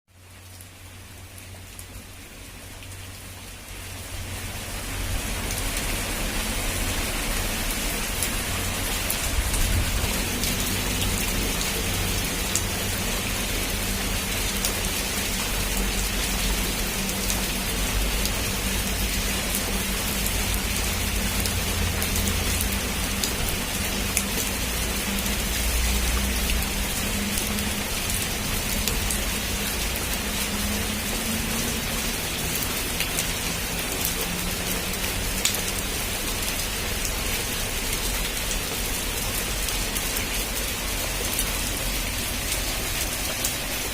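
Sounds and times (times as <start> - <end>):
heavy rain pouring: 0.1 - 43.9.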